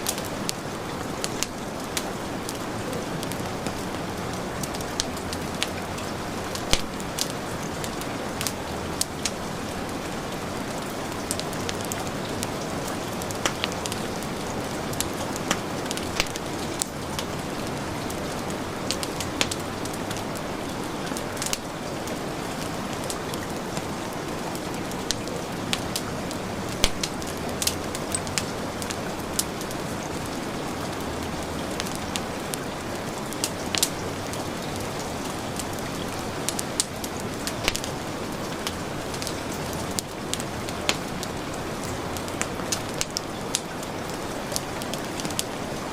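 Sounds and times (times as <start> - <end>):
heavy rain falling: 0.0 - 45.9
wood fire crackling: 0.0 - 45.9.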